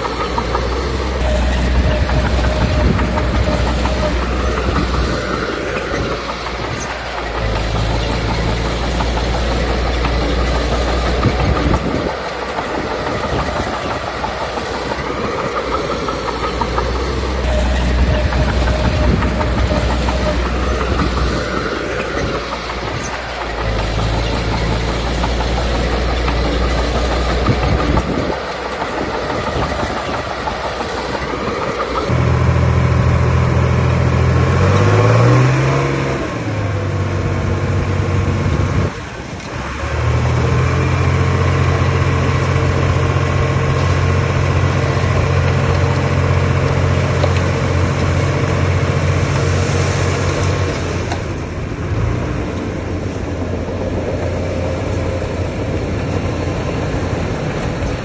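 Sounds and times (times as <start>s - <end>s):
bulldozer diesel engine working: 0.0s - 58.0s
crawler tracks clanking: 0.0s - 58.0s.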